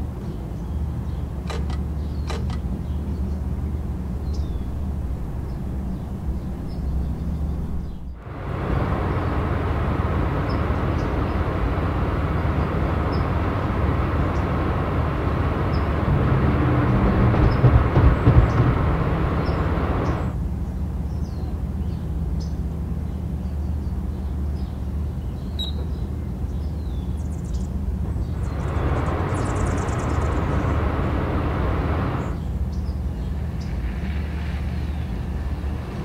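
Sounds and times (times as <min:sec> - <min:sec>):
car engine hum: 0:00.0 - 0:36.0
road noise: 0:00.0 - 0:36.0.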